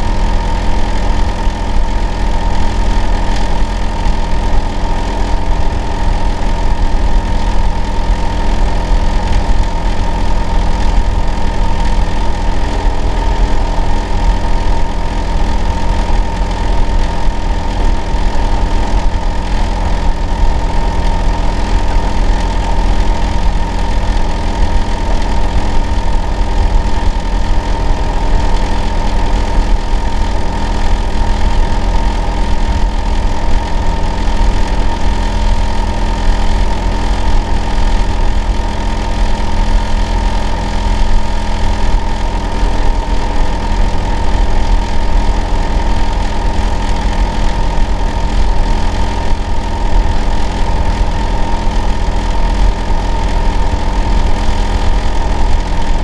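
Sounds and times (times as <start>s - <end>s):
air conditioner unit droning: 0.0s - 56.0s.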